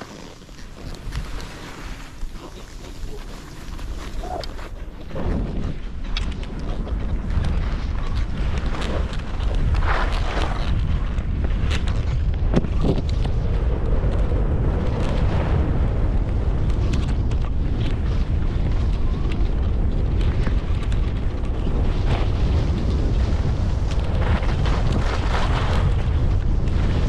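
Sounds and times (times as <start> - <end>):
skis carving across snow: 0.0 - 27.0
wind buffeting microphone: 0.0 - 27.0.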